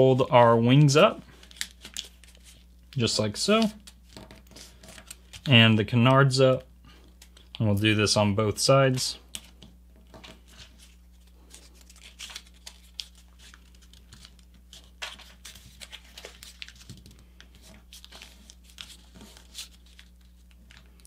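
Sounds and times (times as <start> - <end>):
paper crinkling and rustling: 0.0 - 5.5, 8.8 - 21.0.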